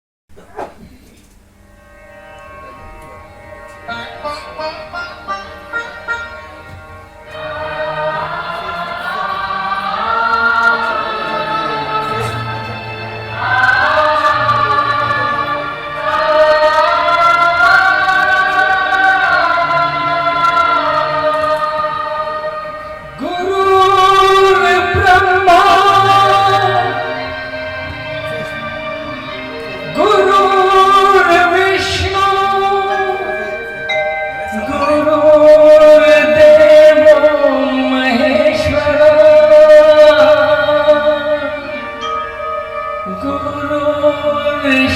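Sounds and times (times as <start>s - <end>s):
backing music accompaniment: 0.5s - 44.9s
chorus holding wordless notes: 1.7s - 44.9s.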